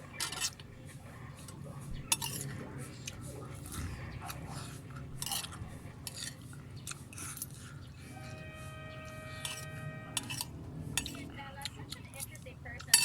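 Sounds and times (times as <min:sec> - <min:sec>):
cutlery scraping a plate: 0:00.0 - 0:00.7, 0:01.4 - 0:08.4, 0:09.0 - 0:13.0
low steady hum: 0:00.0 - 0:13.0.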